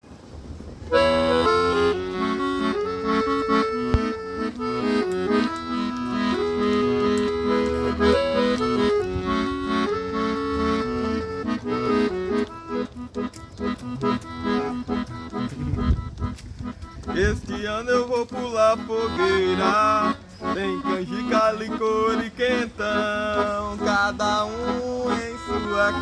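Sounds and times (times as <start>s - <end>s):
accordion melody: 0.9s - 26.0s.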